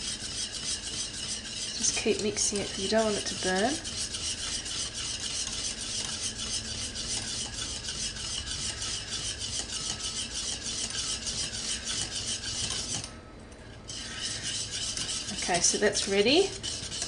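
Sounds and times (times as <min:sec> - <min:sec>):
whisk scraping metal saucepan: 0:00.0 - 0:17.0.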